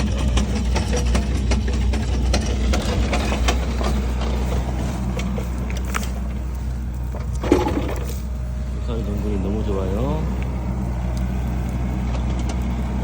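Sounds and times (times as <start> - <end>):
engine humming: 0.0 - 13.0
sharp clicks and rattles: 0.0 - 13.0.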